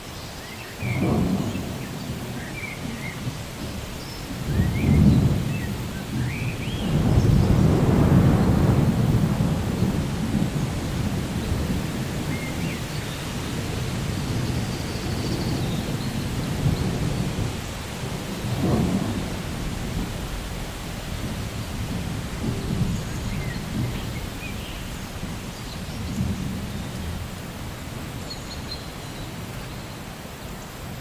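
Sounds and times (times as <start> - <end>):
steady rain: 0.0 - 31.0
rolling thunder: 0.8 - 29.8.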